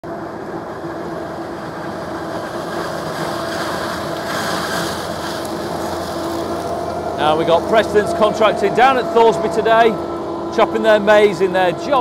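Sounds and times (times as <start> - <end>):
harvester machine drone: 0.0 - 12.0.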